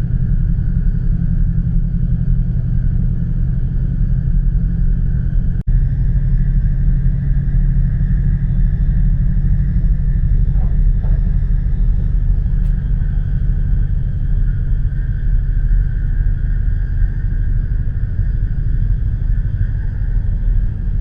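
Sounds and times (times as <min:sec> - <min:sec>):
faint steady hum: 0:00.0 - 0:21.0
train rumble at speed: 0:00.0 - 0:21.0.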